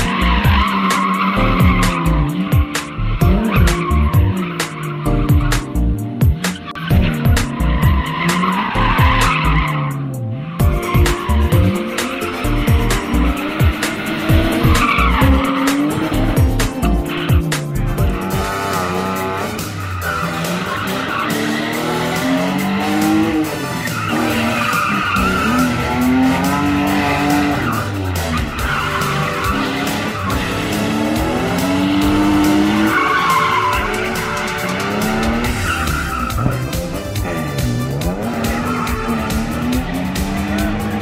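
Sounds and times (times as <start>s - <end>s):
tyres squealing on tarmac: 0.0s - 5.7s, 6.4s - 10.1s, 10.8s - 16.4s, 18.2s - 41.0s
car engines revving: 0.0s - 41.0s.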